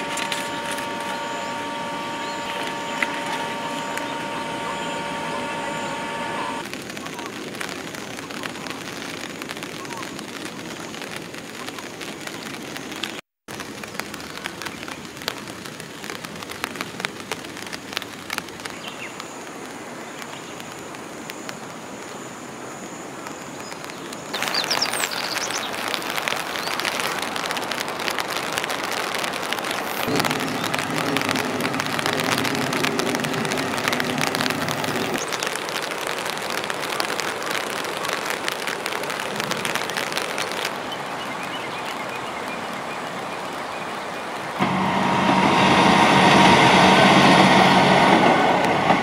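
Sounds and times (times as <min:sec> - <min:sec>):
rain falling: 0:00.0 - 0:49.0
raindrops ticking sharply: 0:00.0 - 0:49.0.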